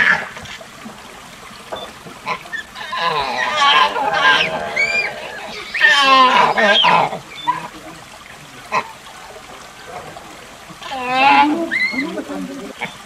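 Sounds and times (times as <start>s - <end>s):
monkey calls: 0.0s - 13.0s.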